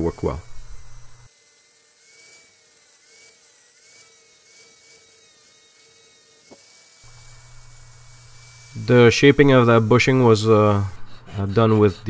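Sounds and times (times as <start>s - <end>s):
faint angle grinder whine: 0.0s - 11.2s.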